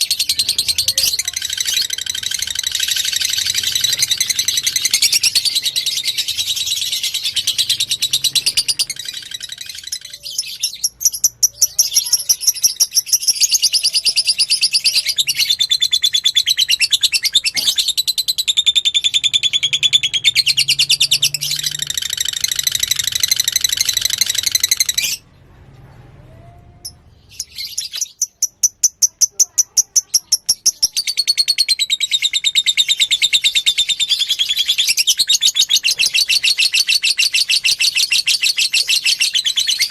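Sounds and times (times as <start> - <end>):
bird chattering trill: 0.0 - 25.2, 26.8 - 39.9.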